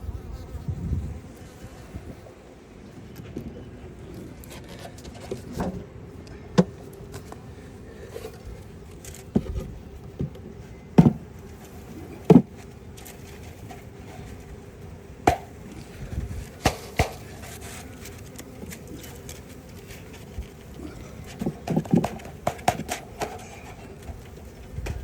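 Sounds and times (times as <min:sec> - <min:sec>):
faint hum of honeybees: 0:00.0 - 0:25.0
knocks and scrapes of hive equipment: 0:00.2 - 0:25.0.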